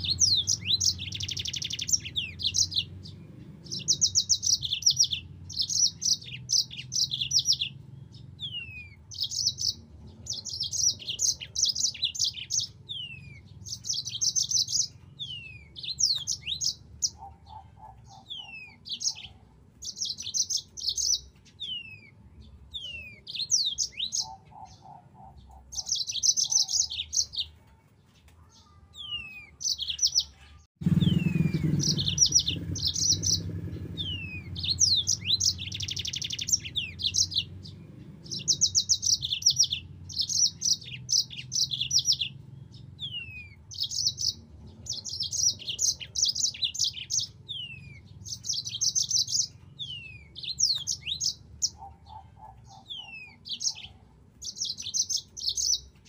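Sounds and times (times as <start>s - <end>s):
canary singing trills: 0.0s - 27.8s, 28.4s - 56.0s.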